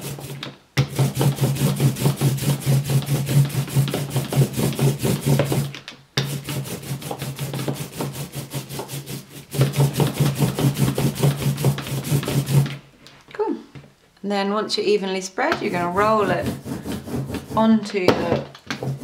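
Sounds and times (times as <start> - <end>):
ink roller rolling in ink: 0.0 - 12.8, 15.6 - 19.0.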